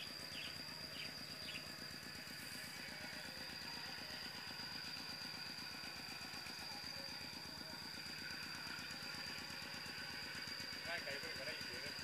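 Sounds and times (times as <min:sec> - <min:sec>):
distant tractor engine chugging: 0:00.0 - 0:12.0.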